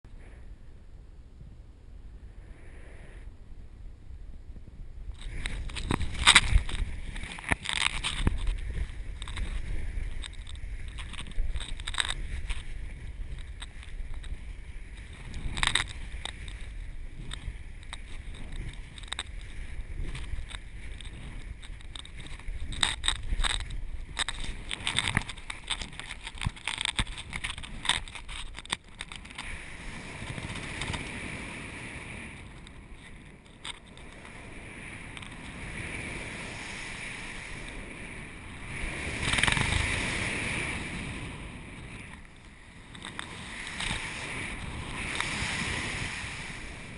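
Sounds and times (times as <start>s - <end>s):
wind buffeting a microphone: 0.2s - 46.9s.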